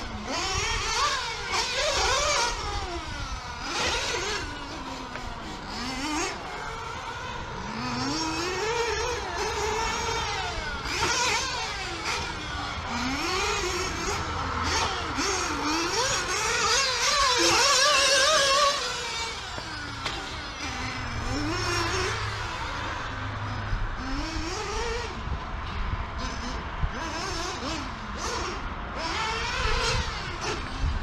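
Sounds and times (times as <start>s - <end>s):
rc car engine whining: 0.0s - 31.0s.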